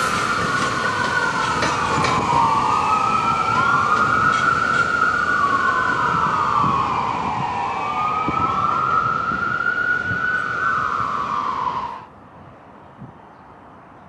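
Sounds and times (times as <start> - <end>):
siren wailing: 0.0 - 12.1.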